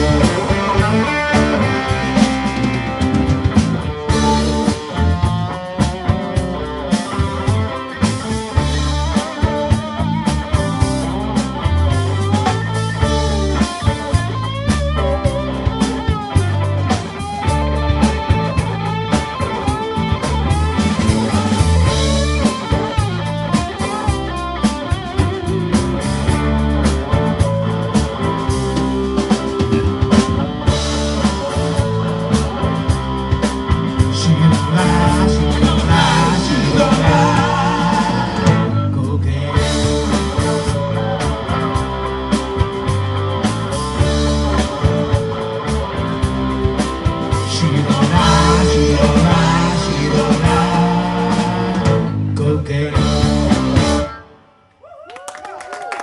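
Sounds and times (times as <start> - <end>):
live rock band playing: 0.0 - 54.6
lead guitar line: 0.0 - 54.7.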